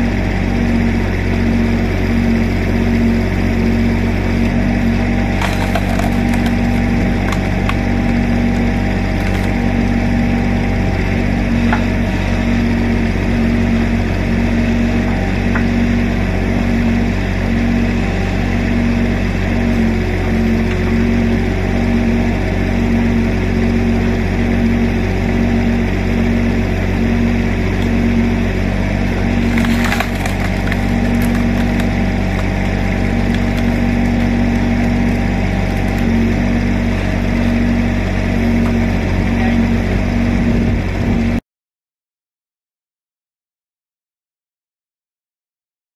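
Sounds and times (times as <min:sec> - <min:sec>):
diesel engine throbbing: 0:00.0 - 0:41.4
hydraulics working log splitter: 0:00.0 - 0:41.4.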